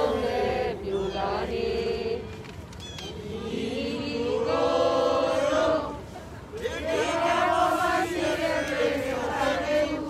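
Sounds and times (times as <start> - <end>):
protesters chanting: 0.0 - 2.3, 3.1 - 10.0.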